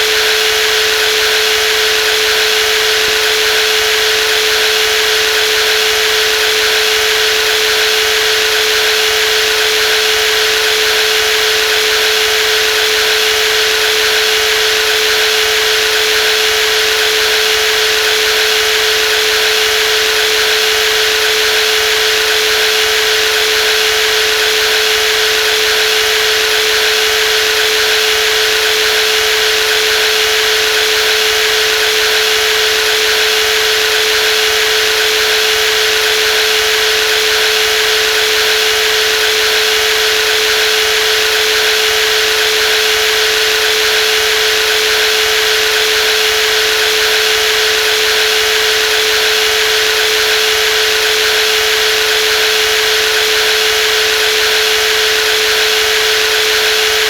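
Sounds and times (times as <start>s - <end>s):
jigsaw running: 0.0s - 57.0s.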